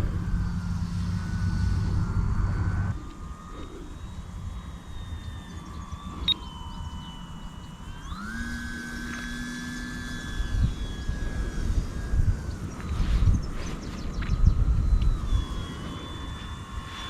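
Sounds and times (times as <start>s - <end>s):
electric motor and propeller whine: 0.0s - 17.0s
wind rumbling on microphone: 0.0s - 17.0s.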